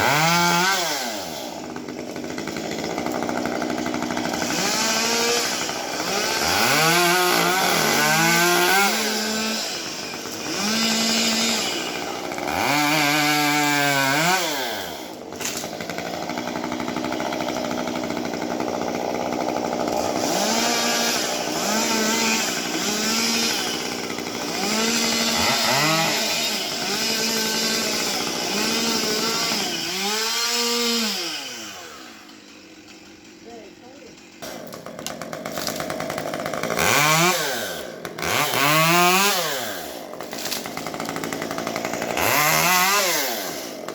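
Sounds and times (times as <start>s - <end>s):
chainsaw revving and idling: 0.0s - 43.9s.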